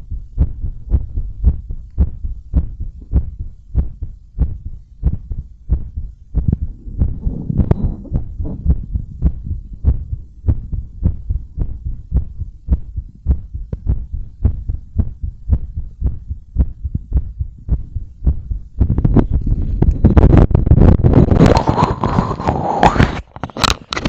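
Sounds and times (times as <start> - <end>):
heartbeat thumps: 0.0 - 22.6.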